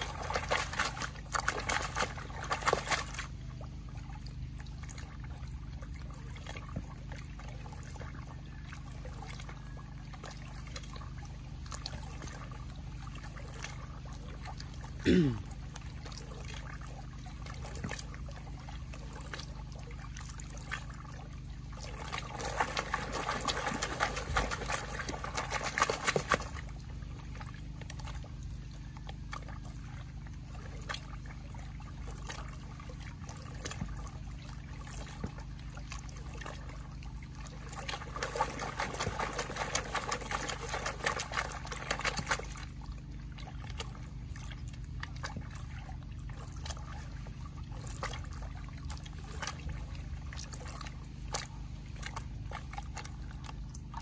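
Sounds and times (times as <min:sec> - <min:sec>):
steady low hum: 0:00.0 - 0:54.0
water sloshing in gold pan: 0:00.0 - 0:54.0.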